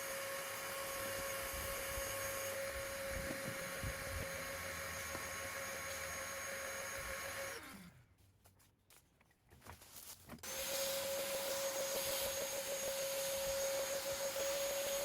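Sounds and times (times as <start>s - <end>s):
vacuum cleaner whining hum: 0.0s - 8.0s, 10.4s - 15.0s.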